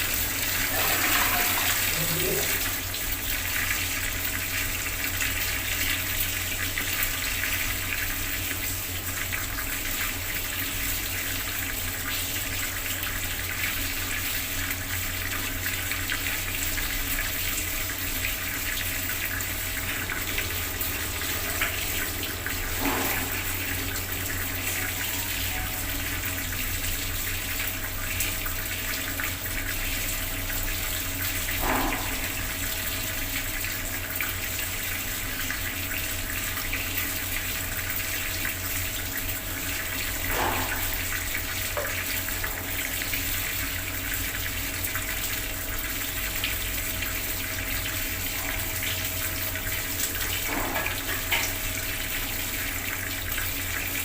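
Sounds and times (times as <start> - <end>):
water tap running: 0.0 - 54.0.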